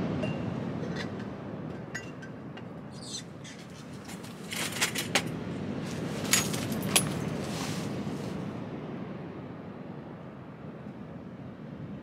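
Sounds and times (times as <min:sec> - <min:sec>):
strong wind: 0:00.0 - 0:12.0.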